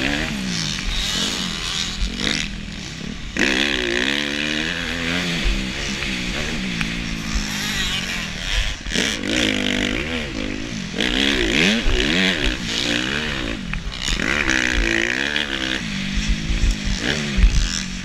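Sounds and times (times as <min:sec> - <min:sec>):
motorcycle engine revving: 0:00.0 - 0:18.0
wind on microphone: 0:00.0 - 0:18.0.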